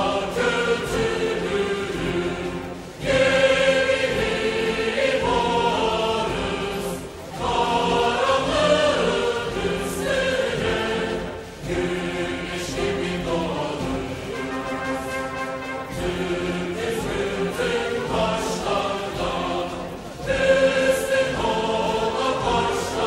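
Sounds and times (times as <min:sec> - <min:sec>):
voices singing in unison: 0:00.0 - 0:23.0.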